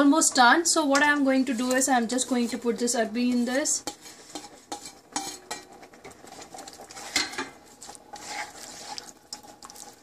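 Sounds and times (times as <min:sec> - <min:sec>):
spatula scraping pan: 0:01.0 - 0:10.0.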